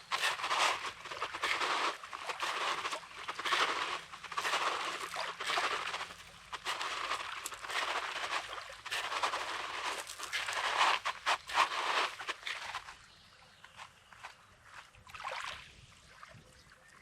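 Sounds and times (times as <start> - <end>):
footsteps crunching on rocky sand: 0.0 - 14.9.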